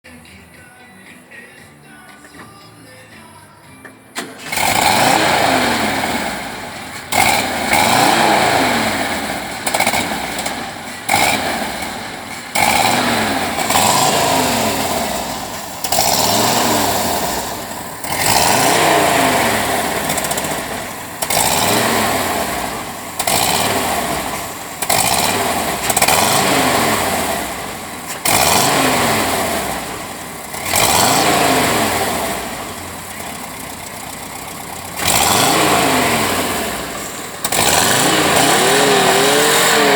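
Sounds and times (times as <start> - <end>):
engine revving: 4.2 - 39.9.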